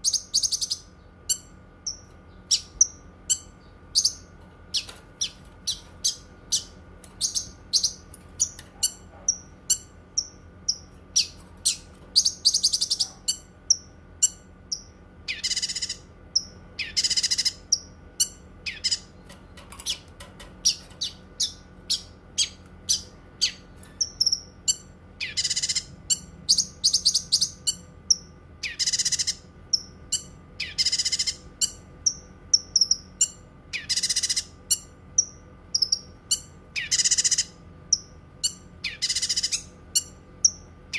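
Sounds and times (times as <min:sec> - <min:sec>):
bird chirping and singing: 0:00.0 - 0:40.6
faint steady hum: 0:00.0 - 0:40.9.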